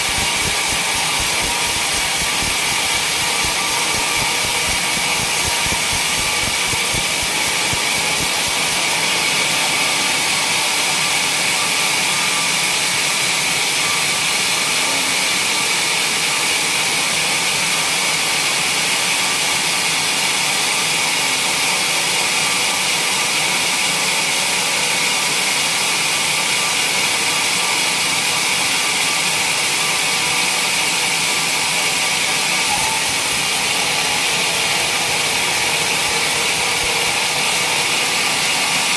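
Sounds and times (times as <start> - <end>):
sawmill machine noise: 0.0 - 38.9.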